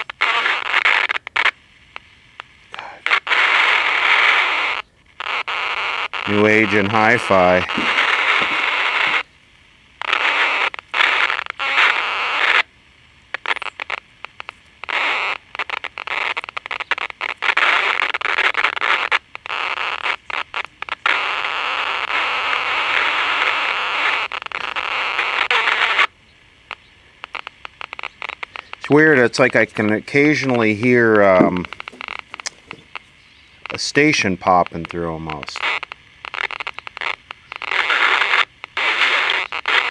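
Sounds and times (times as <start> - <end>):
radio hiss and crackle: 0.0 - 39.9.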